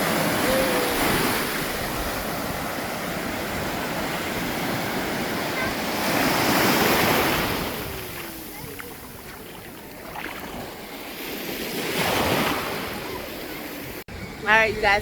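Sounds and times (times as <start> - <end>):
ocean surf washing up: 0.0 - 15.0.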